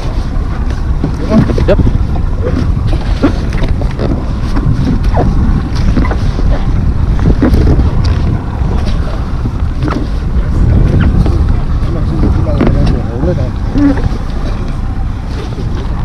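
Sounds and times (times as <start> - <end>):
water lapping against boat: 0.0 - 16.0
wind buffeting microphone: 0.0 - 16.0.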